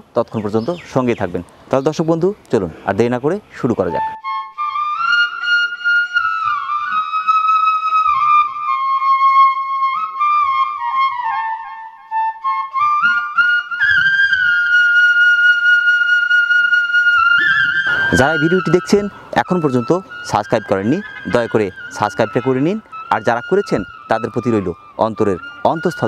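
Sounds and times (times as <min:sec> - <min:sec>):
instrumental melody of sliding notes: 0:03.7 - 0:26.0.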